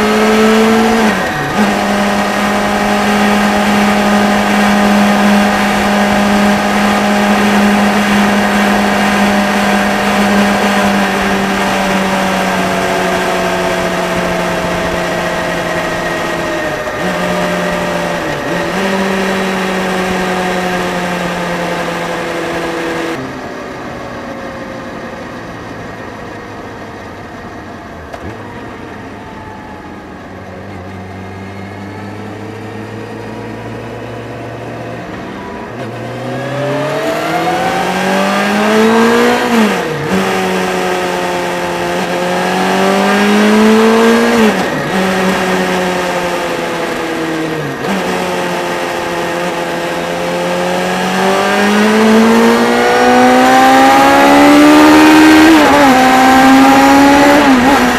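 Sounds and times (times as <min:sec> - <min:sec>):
motorcycle engine running: 0:00.0 - 0:50.3
road wind noise: 0:00.0 - 0:57.9.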